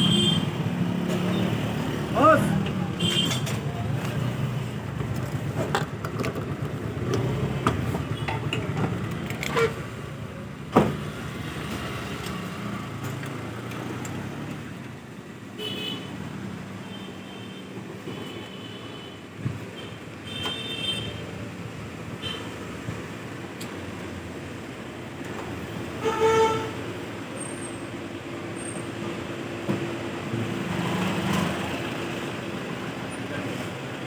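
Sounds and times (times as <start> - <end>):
wind and road noise: 0.0 - 16.8, 19.3 - 34.0.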